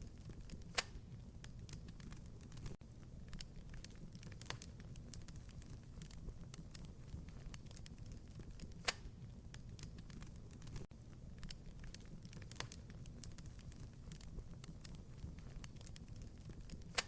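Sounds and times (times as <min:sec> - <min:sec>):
low rumble of flames: 0:00.0 - 0:17.0
wood fire popping and snapping: 0:00.0 - 0:17.0.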